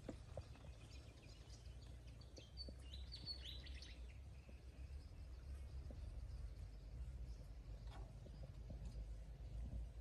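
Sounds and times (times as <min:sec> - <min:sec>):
faint low rumble: 0:00.0 - 0:10.0
small birds chirping: 0:00.0 - 0:10.0.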